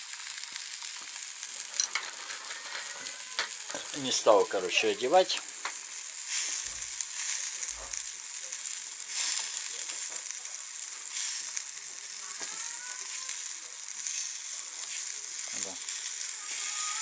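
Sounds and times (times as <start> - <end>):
fish sizzling in a frying pan: 0.0 - 17.0.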